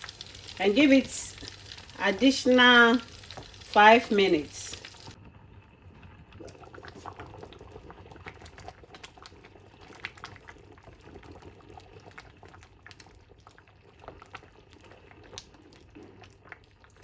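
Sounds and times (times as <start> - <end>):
porridge boiling and popping: 0.0 - 17.0.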